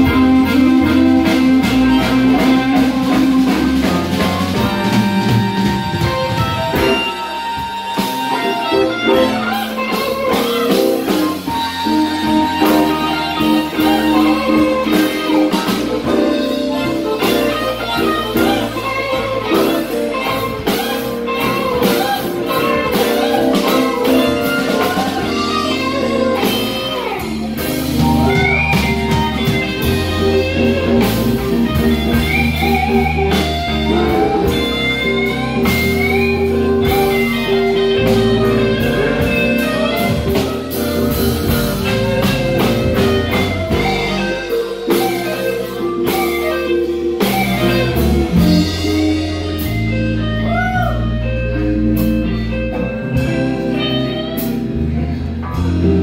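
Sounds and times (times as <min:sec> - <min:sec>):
bass line: 0:00.0 - 0:56.0
blues guitar lead with bent notes: 0:00.0 - 0:56.0
drum kit: 0:00.0 - 0:56.0.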